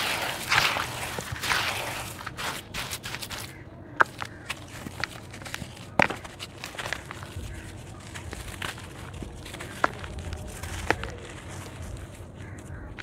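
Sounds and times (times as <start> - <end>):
dry dirt crumbling and crunching: 0.0 - 13.0
sharp cracks of dirt: 0.0 - 13.0.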